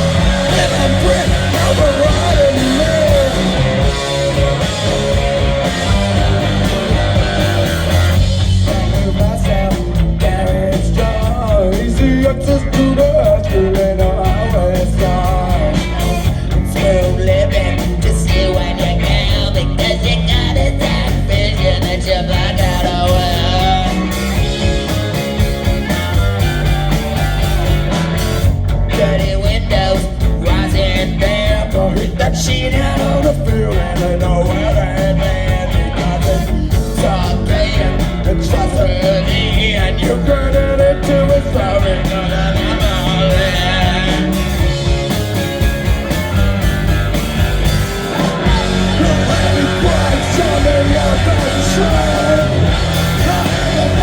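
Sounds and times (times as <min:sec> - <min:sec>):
rock band playing garage rock: 0:00.0 - 0:54.0.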